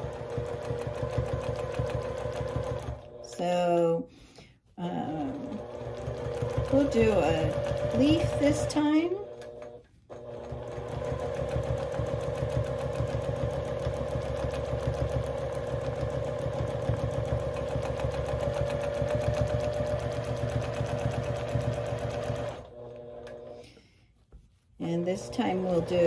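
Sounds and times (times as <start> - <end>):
sewing machine motor whine: 0.0 - 3.4, 5.0 - 23.6, 24.9 - 26.0.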